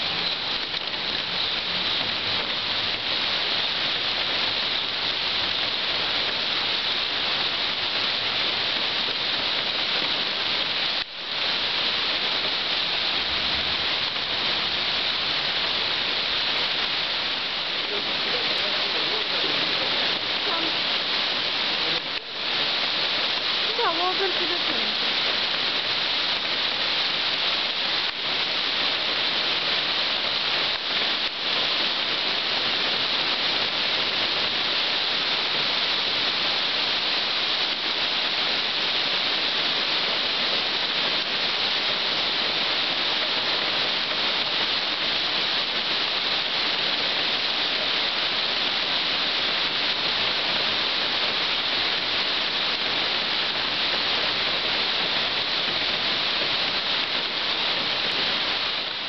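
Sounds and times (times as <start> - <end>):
heavy rain on asphalt: 0.0 - 59.0.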